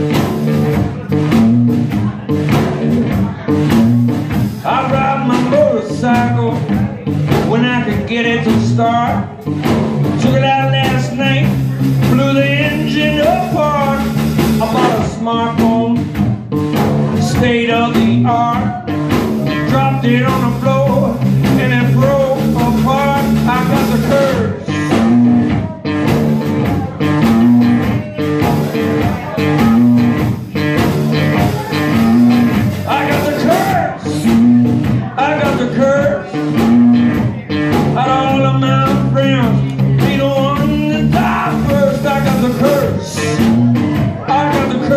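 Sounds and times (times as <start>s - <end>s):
drum kit: 0.0s - 44.9s
electric bass: 0.0s - 44.9s
electric guitar: 0.0s - 44.9s.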